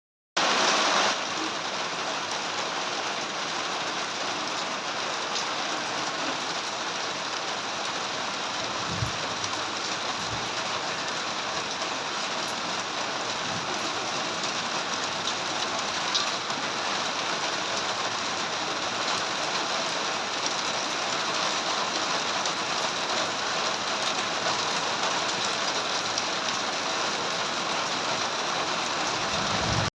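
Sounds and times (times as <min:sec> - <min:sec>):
steady rain falling: 0:00.4 - 0:29.9.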